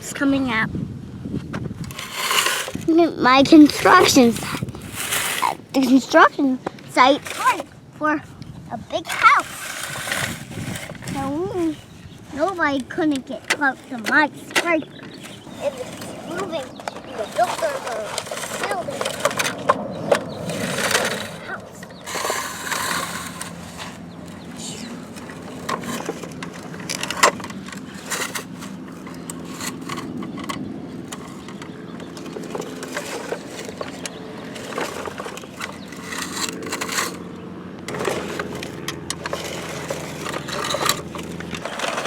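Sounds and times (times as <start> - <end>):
toy trucks scraping through dirt: 1.8 - 8.2, 8.9 - 42.0.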